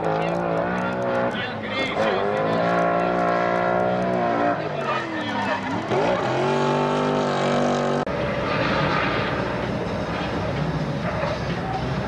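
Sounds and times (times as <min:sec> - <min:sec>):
car engine at high revs: 0:00.0 - 0:12.0
noisy rumble: 0:00.0 - 0:12.0.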